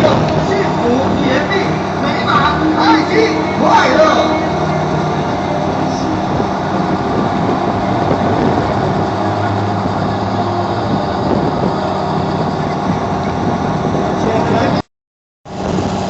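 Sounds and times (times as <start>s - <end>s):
helicopter engine and rotor: 0.0s - 14.8s.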